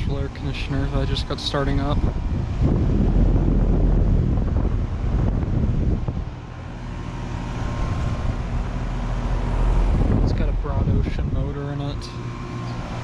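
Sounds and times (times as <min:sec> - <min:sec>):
air conditioner compressor humming: 0:00.0 - 0:13.0
condenser fan blowing air: 0:00.0 - 0:13.0.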